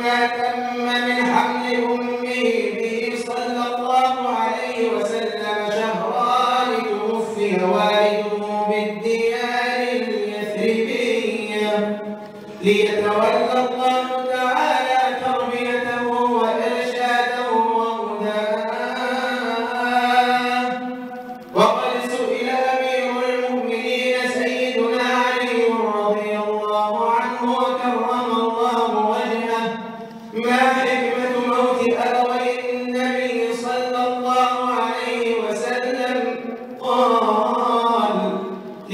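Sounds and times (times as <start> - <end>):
man chanting: 0.0 - 38.9.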